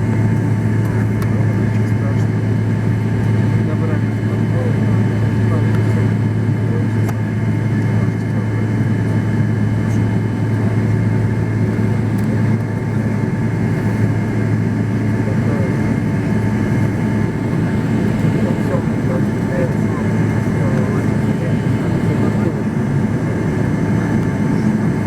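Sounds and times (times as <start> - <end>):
aircraft engine hum: 0.0 - 25.0
ventilation rush: 0.0 - 25.0.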